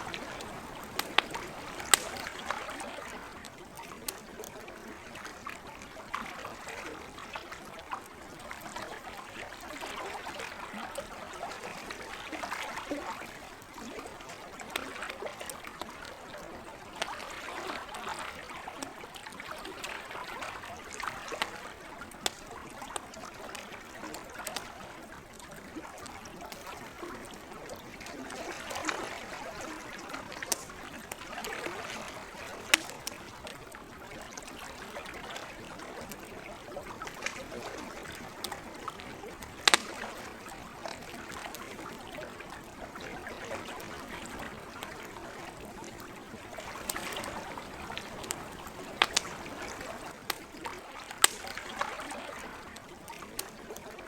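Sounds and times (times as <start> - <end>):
campfire crackling and popping: 0.0 - 54.0
lake water washing: 0.0 - 54.0.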